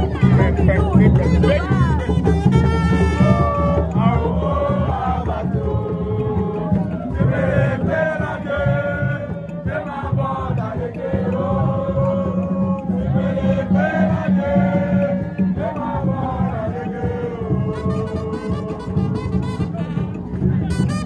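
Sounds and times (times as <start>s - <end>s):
group of voices singing: 0.0s - 20.7s
steady drumming: 0.0s - 21.0s.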